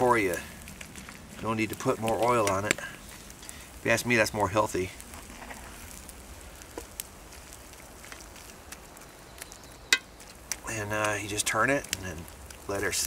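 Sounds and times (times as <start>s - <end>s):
campfire crackling and popping: 0.0s - 13.0s
faint steady hiss: 0.0s - 13.0s.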